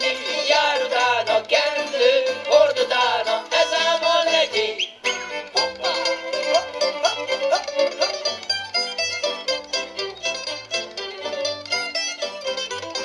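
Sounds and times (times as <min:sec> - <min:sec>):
folk band playing instrumental: 0:00.0 - 0:13.0.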